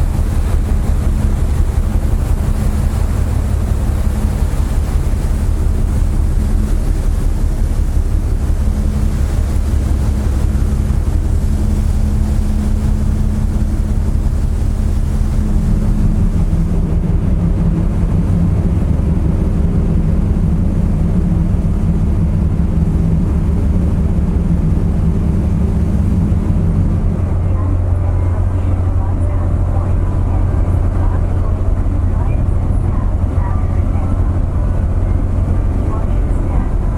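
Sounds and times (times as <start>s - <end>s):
ship engines humming: 0.0s - 36.9s.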